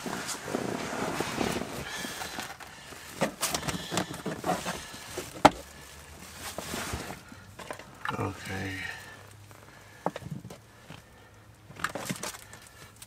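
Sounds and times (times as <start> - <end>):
rustling handling noises: 0.0 - 13.0.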